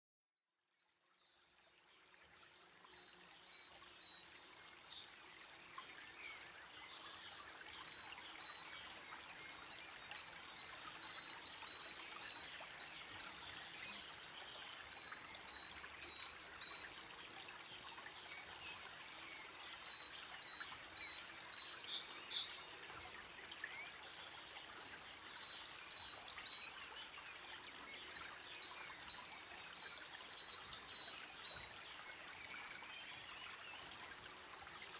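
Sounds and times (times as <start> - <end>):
soft steady hiss: 0.8 - 34.9.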